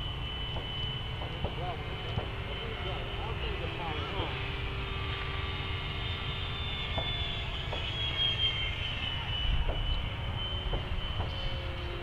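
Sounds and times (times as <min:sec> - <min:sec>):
model jet fan whining: 0:00.0 - 0:12.0
steady low rumble: 0:00.0 - 0:12.0.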